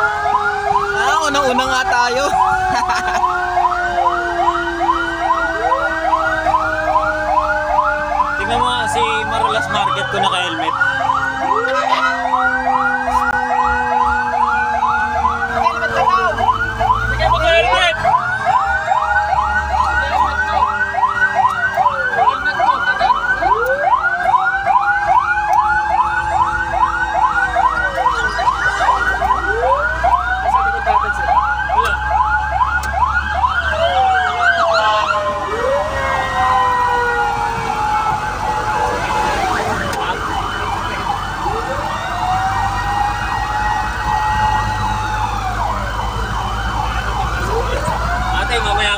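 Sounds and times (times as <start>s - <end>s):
engine low rumble: 0.0s - 48.9s
fire truck sirens: 0.0s - 48.9s.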